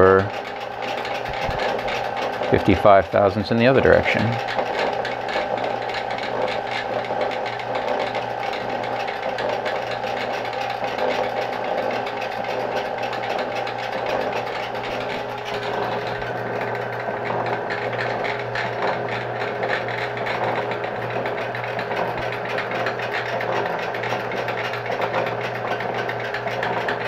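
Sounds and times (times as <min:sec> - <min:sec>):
shaper ram stroking: 0:00.0 - 0:27.0
steady motor hum: 0:00.0 - 0:27.0.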